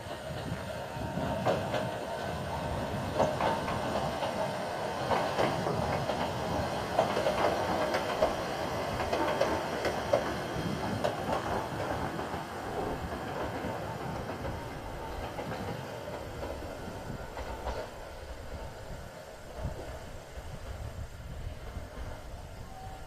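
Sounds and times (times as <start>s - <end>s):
wheels clicking over rails: 0.0s - 18.8s
electric train rumbling: 0.0s - 23.0s.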